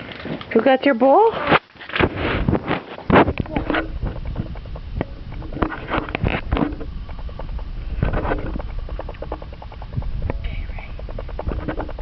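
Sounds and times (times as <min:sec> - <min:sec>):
short rustling bursts: 0:01.2 - 0:12.0
wind rumbling on microphone: 0:01.4 - 0:12.0.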